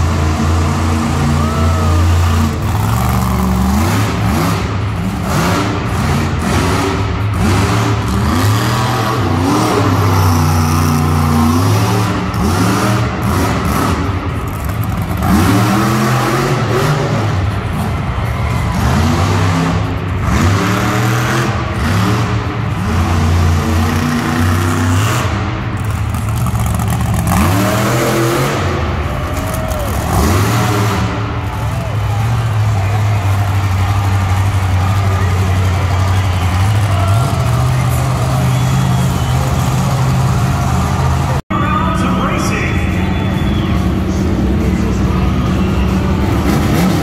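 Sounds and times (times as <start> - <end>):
monster truck engine revving: 0.0 - 47.0.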